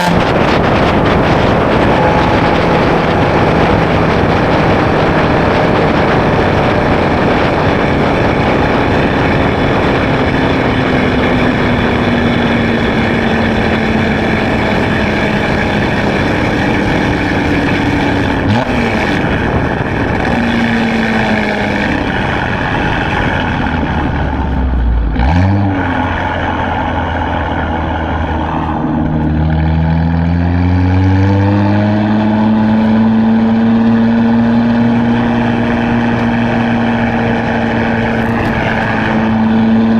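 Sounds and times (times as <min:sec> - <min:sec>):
heavy rushing noise: 0:00.0 - 0:30.3, 0:32.2 - 0:39.9
car engine accelerating: 0:00.0 - 0:39.9.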